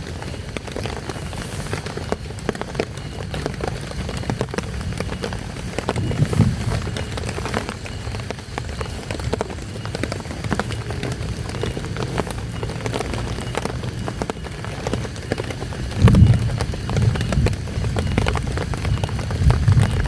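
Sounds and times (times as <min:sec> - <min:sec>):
low rain rumble: 0:00.0 - 0:20.0
raindrops tapping a surface: 0:00.0 - 0:20.0.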